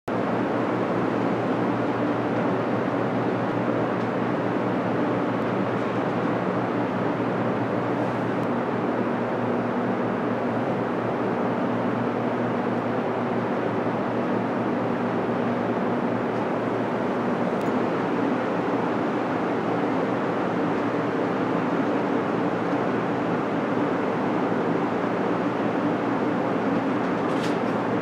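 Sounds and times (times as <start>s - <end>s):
mechanical hum with hiss: 0.1s - 28.0s.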